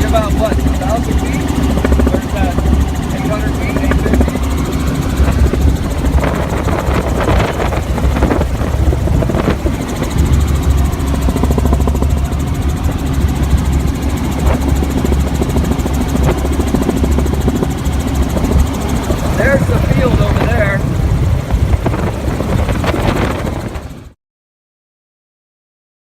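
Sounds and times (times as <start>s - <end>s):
helicopter engine and rotor drone: 0.0s - 24.2s.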